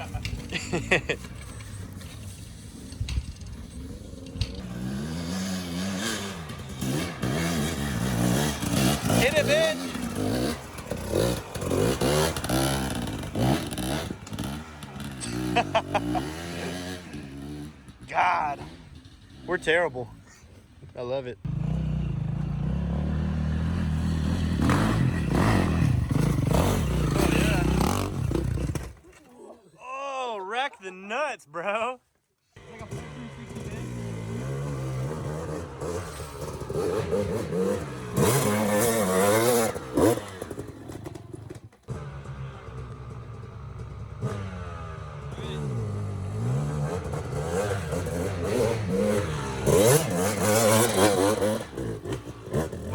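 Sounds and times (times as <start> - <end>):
dirt bike engine revving: 0.0 - 29.1, 32.6 - 52.9.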